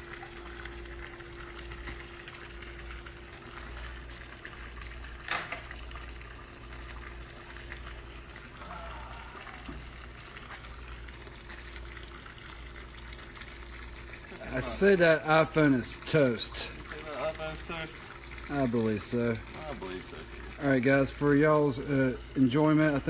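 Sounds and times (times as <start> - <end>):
microwave hum: 0.0 - 23.0.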